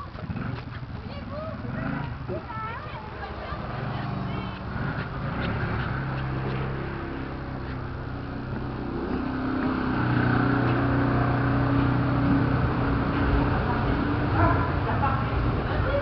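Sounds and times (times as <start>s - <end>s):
motorcycle engine at low revs: 0.0s - 15.8s.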